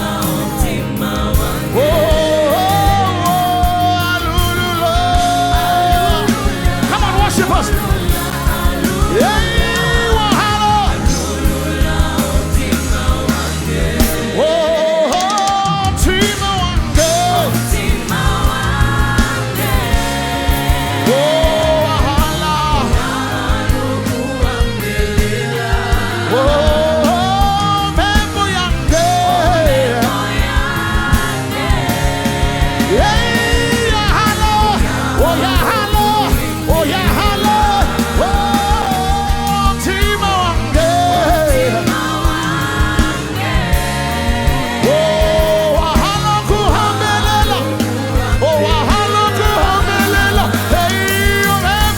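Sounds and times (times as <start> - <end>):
drums beating steadily: 0.0 - 51.9
gospel band with singers: 0.0 - 51.9.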